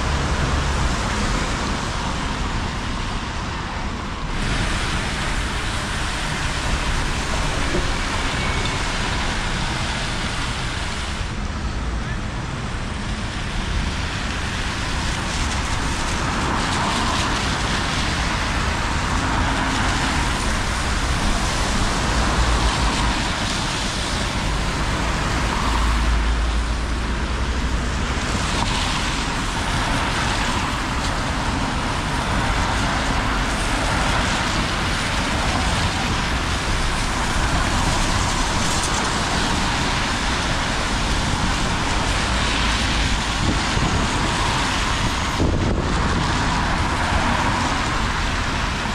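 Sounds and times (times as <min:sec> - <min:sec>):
bus and car engines rumbling: 0:00.0 - 0:48.9
tyres hissing on wet asphalt: 0:00.0 - 0:48.9.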